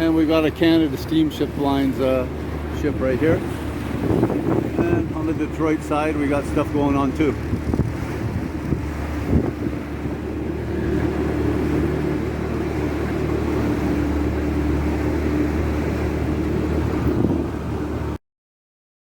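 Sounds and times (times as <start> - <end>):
boat engine droning: 0.0 - 18.2.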